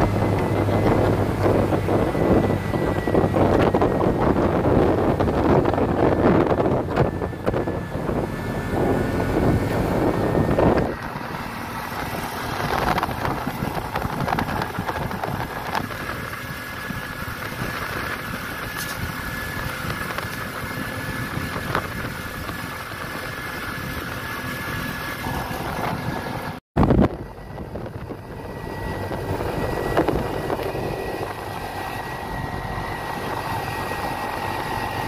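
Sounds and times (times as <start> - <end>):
road noise: 0.0 - 35.0
small engine running: 0.0 - 35.0
wind buffeting microphone: 0.0 - 35.0.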